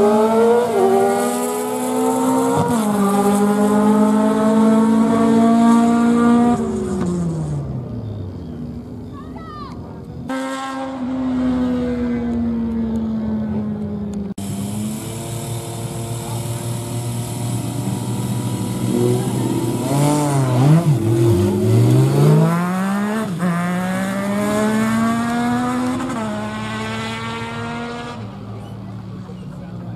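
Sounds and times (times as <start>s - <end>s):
motorcycle engine revving: 0.0s - 8.8s, 10.3s - 29.9s.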